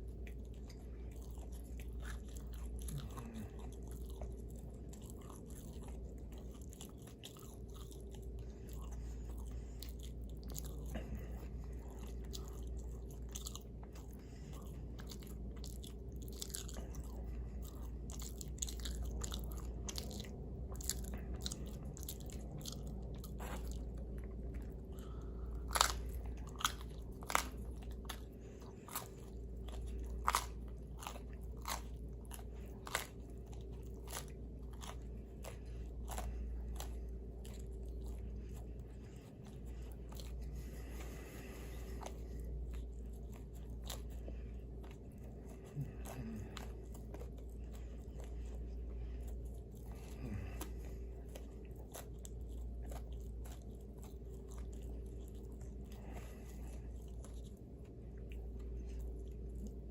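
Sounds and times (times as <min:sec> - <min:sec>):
chewing and biting pizza: 0:00.0 - 0:59.9
crunching crust: 0:00.0 - 0:59.9.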